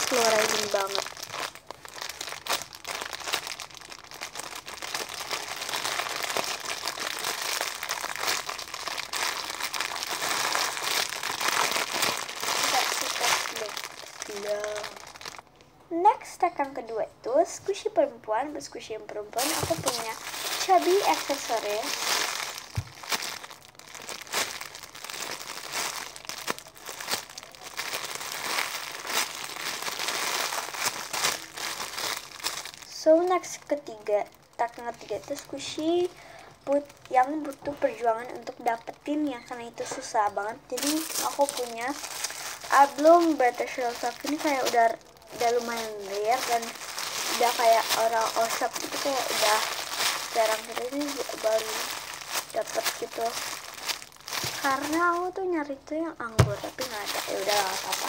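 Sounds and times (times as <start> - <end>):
plastic bag crinkling: 0.0 - 15.6, 19.3 - 55.5, 56.2 - 58.0.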